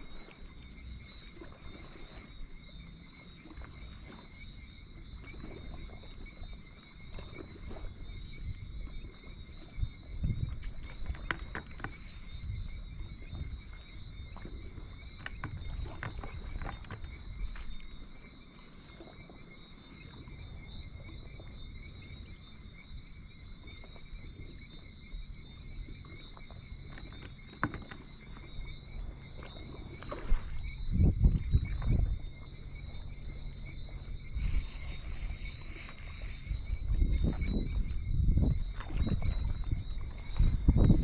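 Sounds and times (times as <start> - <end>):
water rumbling at seawall: 0.0 - 41.0
wind: 0.0 - 41.0.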